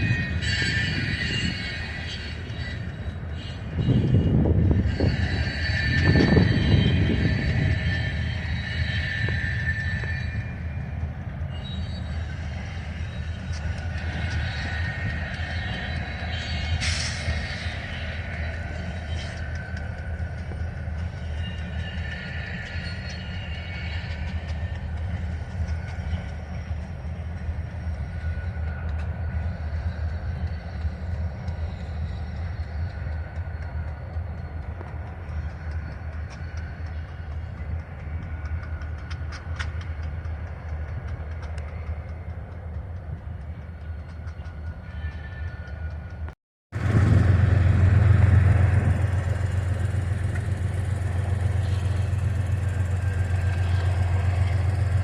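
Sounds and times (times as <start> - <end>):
train cars rolling past: 0.0 - 55.0.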